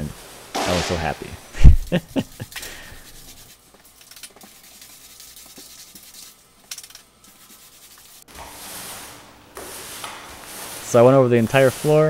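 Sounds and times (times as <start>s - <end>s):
paint roller swishing on floor: 0.0s - 12.0s.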